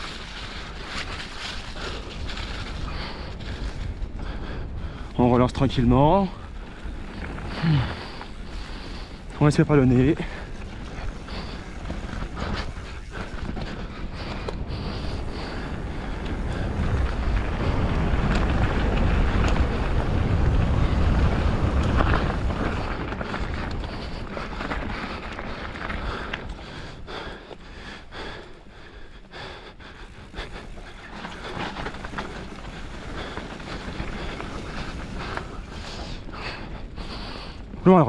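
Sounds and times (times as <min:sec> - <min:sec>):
wind buffeting microphone: 0:00.0 - 0:37.9
bike tyres rumbling on dirt: 0:00.0 - 0:38.0.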